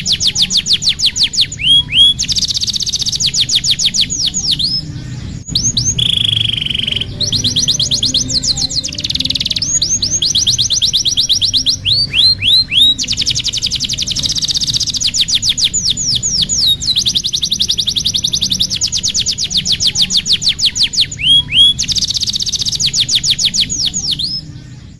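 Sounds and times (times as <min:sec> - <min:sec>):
canary singing trills: 0:00.0 - 0:24.9.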